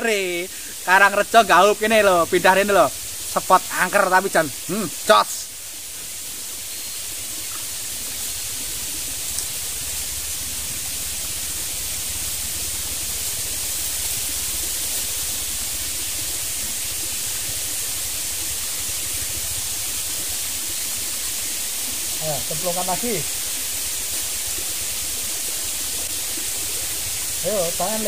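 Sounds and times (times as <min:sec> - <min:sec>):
stream water hissing: 0:00.0 - 0:28.0.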